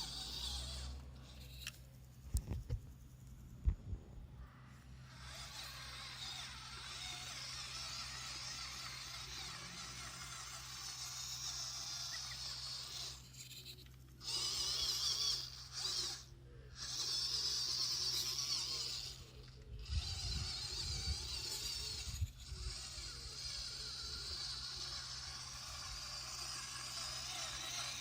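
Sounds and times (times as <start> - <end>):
electric motor whining: 0.0 - 2.8, 4.4 - 28.0.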